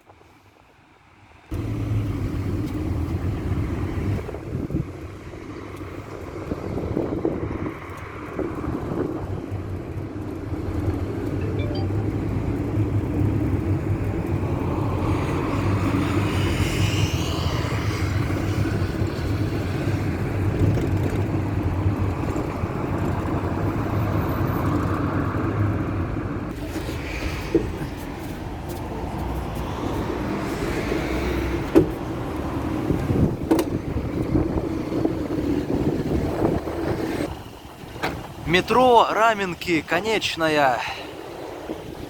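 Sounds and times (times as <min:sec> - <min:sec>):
minibus engine and road rumble: 0:00.0 - 0:42.0.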